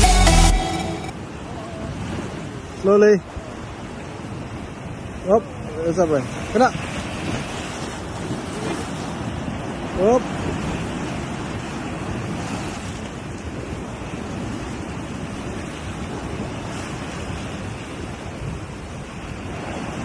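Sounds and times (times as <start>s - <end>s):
ocean surf on rocky shore: 0.0s - 20.0s
wind buffeting microphone: 1.2s - 20.0s.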